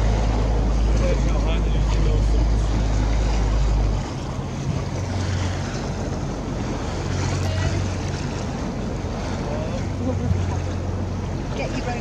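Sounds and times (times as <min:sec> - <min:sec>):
boat engine idling: 0:00.0 - 0:12.0
choppy sea: 0:00.0 - 0:12.0
wind rumble on microphone: 0:00.0 - 0:12.0.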